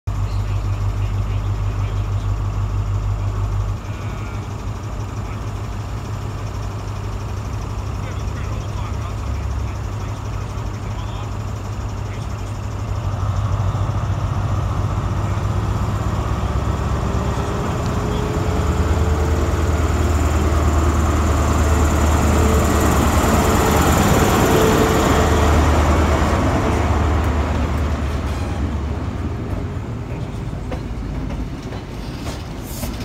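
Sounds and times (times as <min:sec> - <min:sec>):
diesel train engine hum with whine: 0:00.1 - 0:33.0
rumble of passing coaches: 0:00.4 - 0:31.5.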